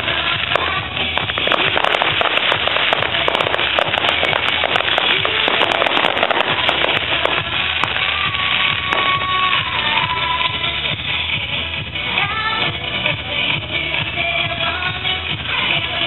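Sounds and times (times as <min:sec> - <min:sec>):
fireworks crackling and popping: 0:00.0 - 0:16.0
music playing: 0:00.0 - 0:16.0.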